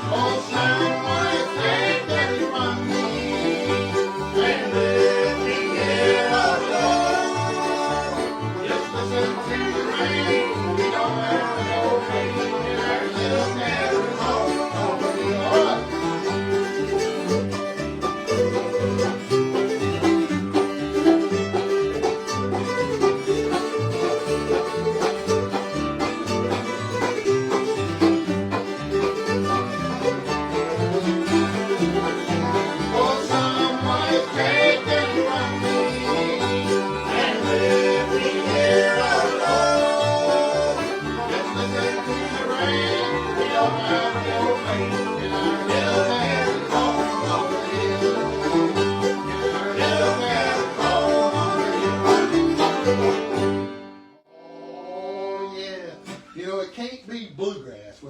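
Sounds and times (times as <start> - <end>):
sliding lead line: 0.0 - 53.6
guitar picking: 0.0 - 54.1
fiddle: 0.0 - 56.3
banjo picking: 0.0 - 56.5.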